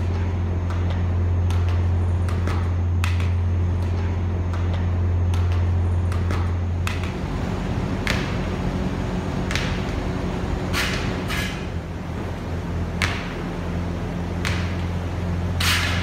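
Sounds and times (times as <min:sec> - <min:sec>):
low hum: 0:00.0 - 0:16.0
running shoes slapping concrete: 0:00.0 - 0:16.0.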